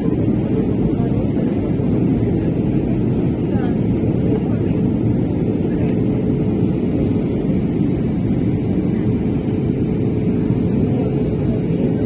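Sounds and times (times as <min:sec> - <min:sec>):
airliner engines and airflow roar: 0:00.0 - 0:12.0.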